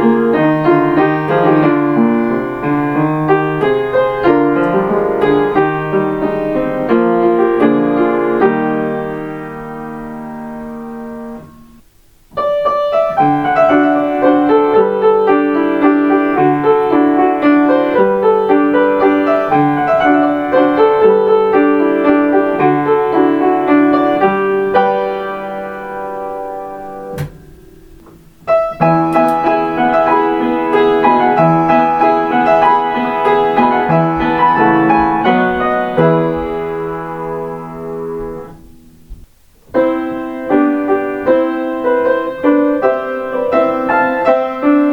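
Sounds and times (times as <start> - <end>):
solo piano melody: 0.0 - 44.9.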